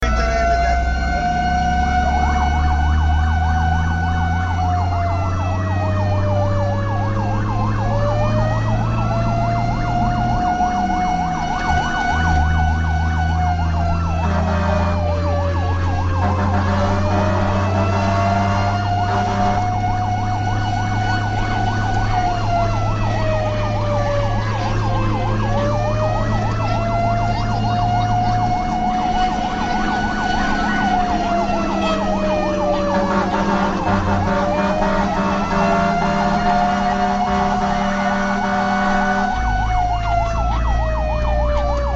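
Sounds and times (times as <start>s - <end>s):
fast warbling siren tone: 0.0s - 41.9s
fire truck siren wailing: 0.0s - 41.9s
truck engine drone: 0.0s - 41.9s.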